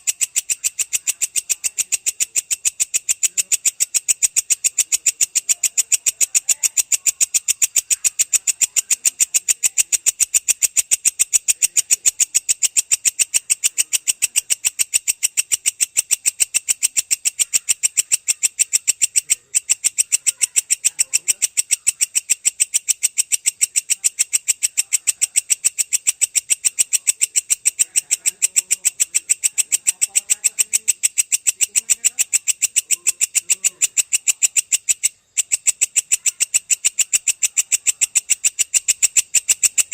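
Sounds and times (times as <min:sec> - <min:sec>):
grasshopper chirping: 0:00.0 - 0:39.9.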